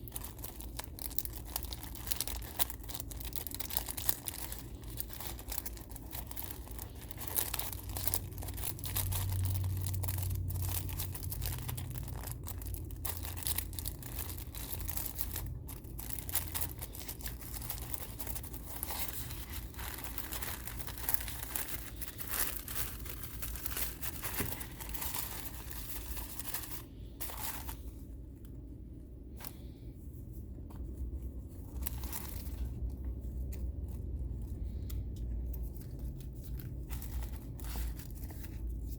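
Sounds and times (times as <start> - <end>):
paper packaging crinkling: 0.0 - 28.7, 30.5 - 38.9.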